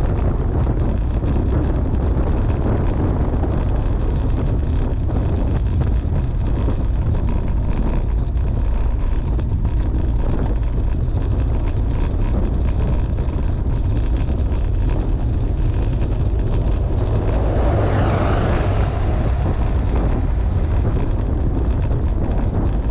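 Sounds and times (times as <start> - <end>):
wind rumbling on microphone: 0.0 - 22.9.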